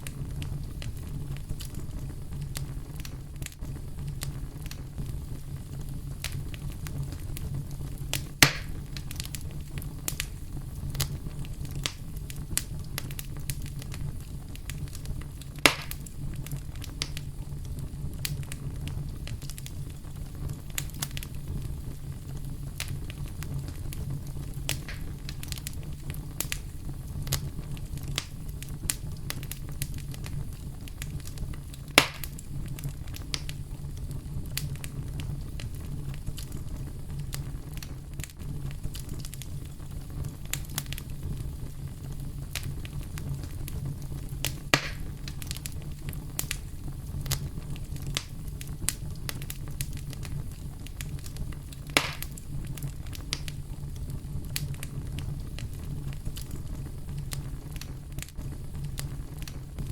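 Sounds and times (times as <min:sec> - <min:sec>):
campfire crackling and popping: 0:00.0 - 0:59.9
low rumble of brown noise: 0:00.0 - 0:59.9.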